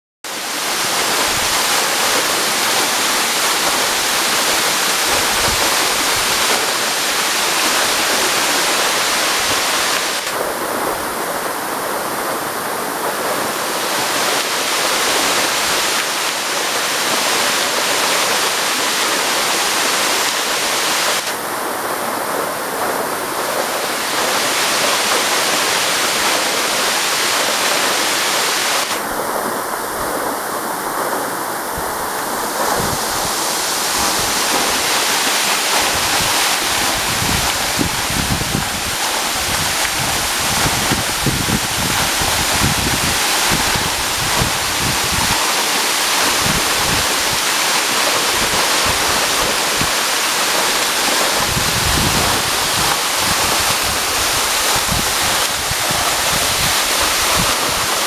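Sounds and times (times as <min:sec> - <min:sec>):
waterfall rushing: 0:00.2 - 0:58.0.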